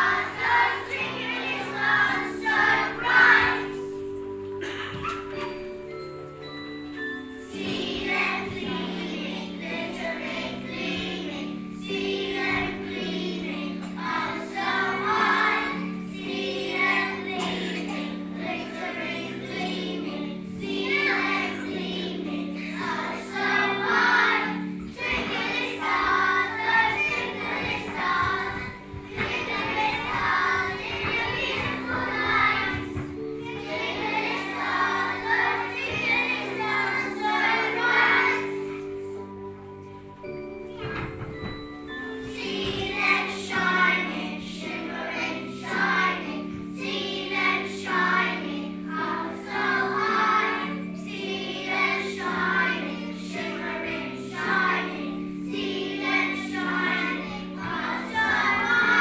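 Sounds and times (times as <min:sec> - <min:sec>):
children singing together: 0:00.0 - 0:59.0.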